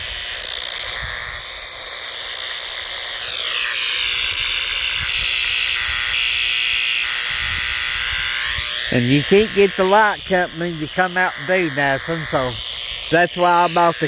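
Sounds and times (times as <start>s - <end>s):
hissing radio static: 0.0s - 14.0s.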